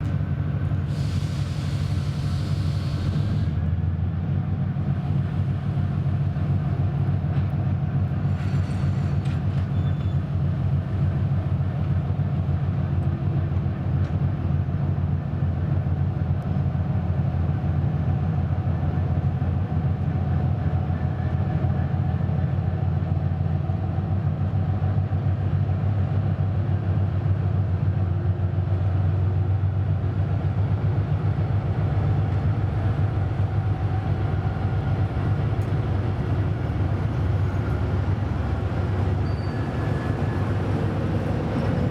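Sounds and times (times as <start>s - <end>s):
diesel locomotive rumbling: 0.0s - 41.9s.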